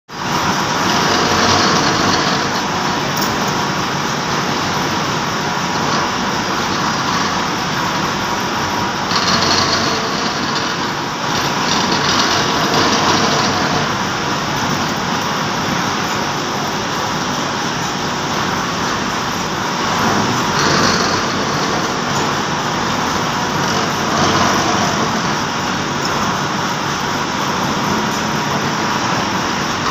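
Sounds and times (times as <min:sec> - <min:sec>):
gear cutting machine running: 0:00.1 - 0:29.9.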